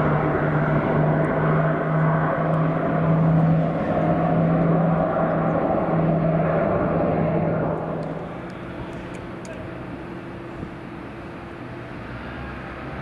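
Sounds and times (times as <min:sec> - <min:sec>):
turboprop engines drone: 0:00.0 - 0:13.0.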